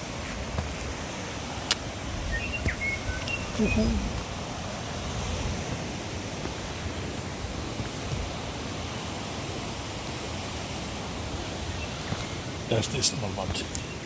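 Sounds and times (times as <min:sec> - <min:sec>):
falling water rushing: 0:00.0 - 0:14.0.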